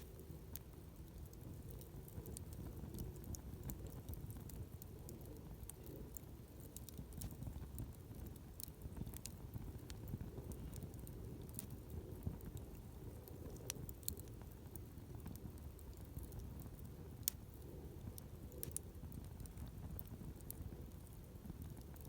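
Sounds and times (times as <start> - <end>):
low fire rumble: 0.0 - 22.0
wood bonfire crackling: 0.0 - 22.0.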